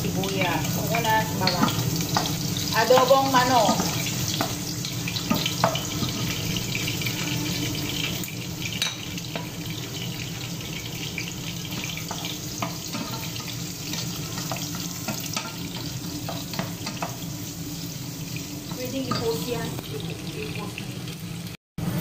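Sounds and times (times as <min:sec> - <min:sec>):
garlic sizzling in oil: 0:00.0 - 0:22.0.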